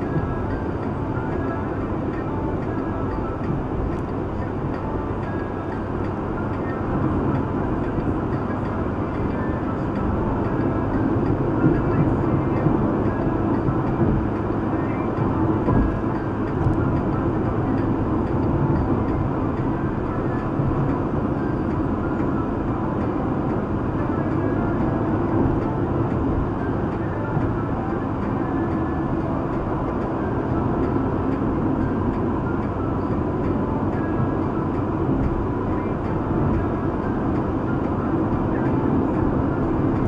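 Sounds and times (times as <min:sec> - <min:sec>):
car cabin road and wind noise: 0:00.0 - 0:40.0.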